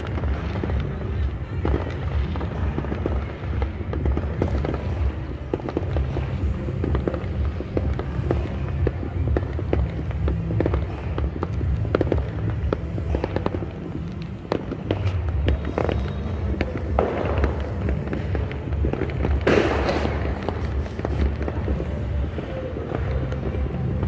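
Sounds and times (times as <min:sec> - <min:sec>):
fireworks crackling pops: 0:00.0 - 0:24.0.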